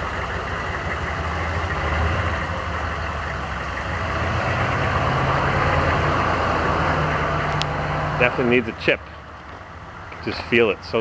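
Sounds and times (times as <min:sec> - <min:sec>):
diesel engine pulling under load: 0:00.0 - 0:11.0
road and wind noise: 0:00.0 - 0:11.0.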